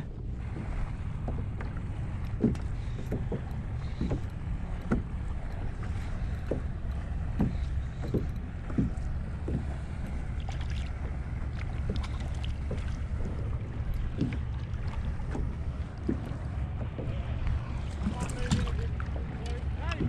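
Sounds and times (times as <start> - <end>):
low rumble: 0.0 - 20.0
water lapping against kayak hull: 0.0 - 20.0.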